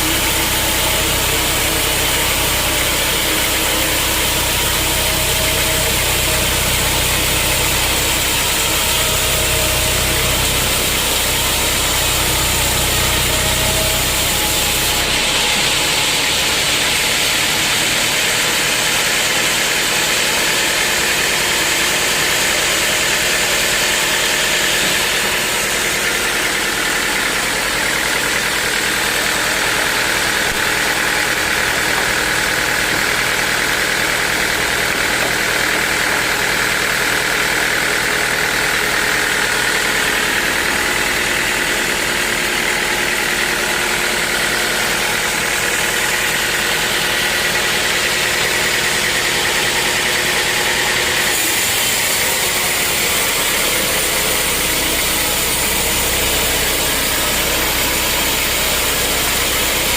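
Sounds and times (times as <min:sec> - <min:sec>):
sawmill machinery drone and whine: 0:00.0 - 0:59.9.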